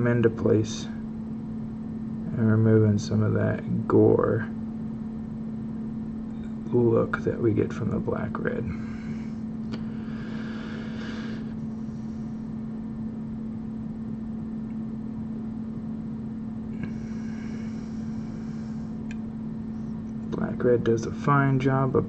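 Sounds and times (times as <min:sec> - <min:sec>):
room noise: 0:00.0 - 0:22.0
steady low hum: 0:00.0 - 0:22.0.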